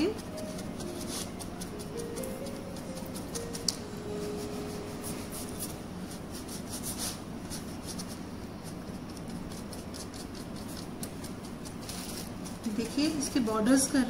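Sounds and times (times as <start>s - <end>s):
paintbrush scratchy strokes: 0.0s - 12.7s.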